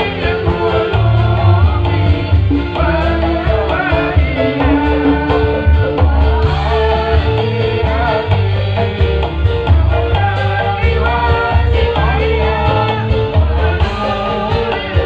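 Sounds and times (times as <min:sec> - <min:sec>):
loud bass beat: 0:00.0 - 0:15.0
person singing: 0:00.0 - 0:15.0.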